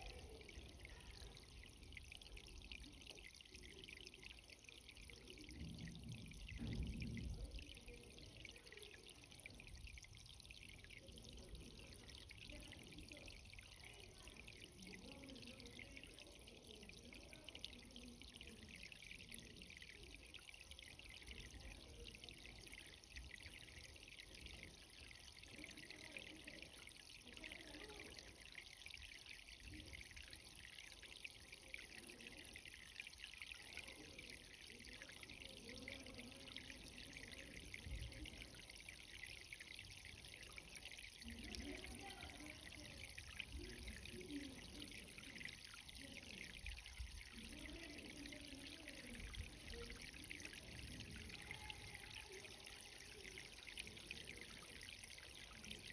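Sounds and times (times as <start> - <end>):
irrigation water trickling: 0.0 - 55.9.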